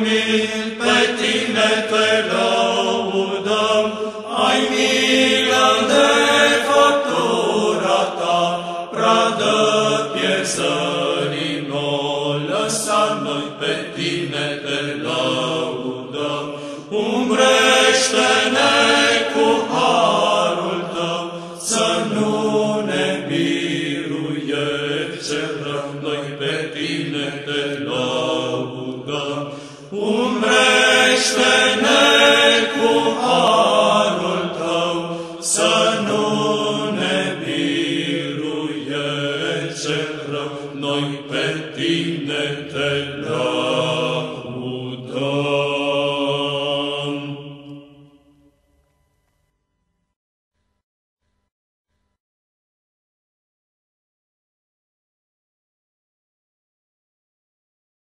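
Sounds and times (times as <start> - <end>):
slow sung vocal melody: 0.0 - 48.8.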